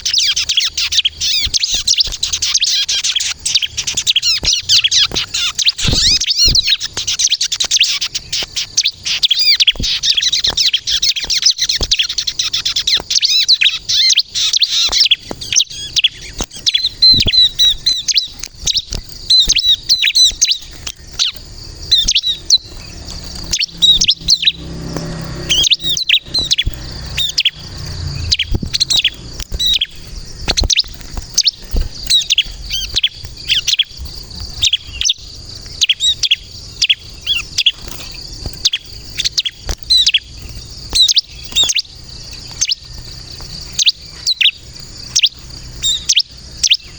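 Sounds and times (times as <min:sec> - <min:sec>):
bird chirping trills: 0:00.0 - 0:46.9.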